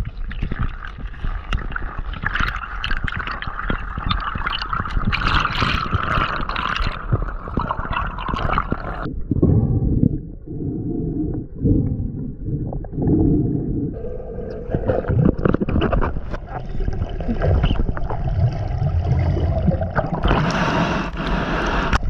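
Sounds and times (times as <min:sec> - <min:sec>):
muffled underwater rush: 0:00.0 - 0:22.0
underwater crackles and clicks: 0:00.0 - 0:22.0.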